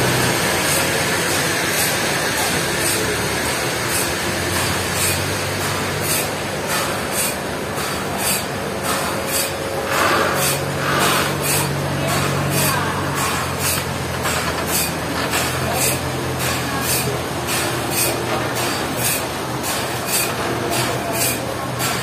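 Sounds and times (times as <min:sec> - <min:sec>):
forklift engine running: 0:00.0 - 0:22.0.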